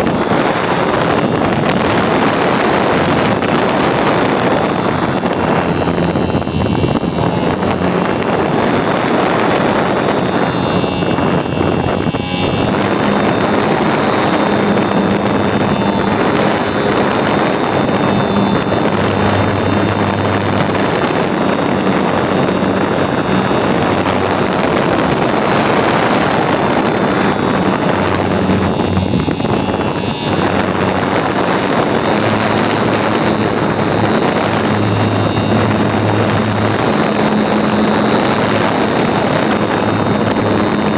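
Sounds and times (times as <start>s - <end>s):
model airplane motor and propeller: 0.0s - 40.9s
wind rushing over microphone: 0.0s - 40.9s.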